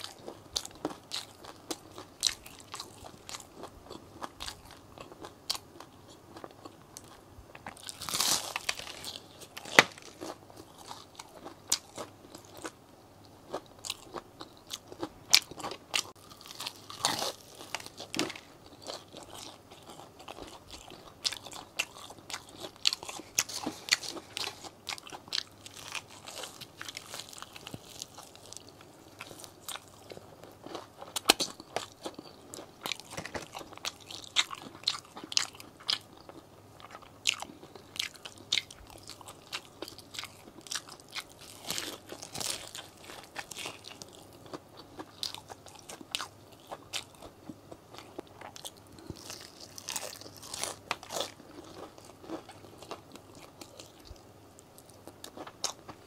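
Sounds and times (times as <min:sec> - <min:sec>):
crunchy bites of fried chicken: 0:00.0 - 0:12.8, 0:13.5 - 0:54.2.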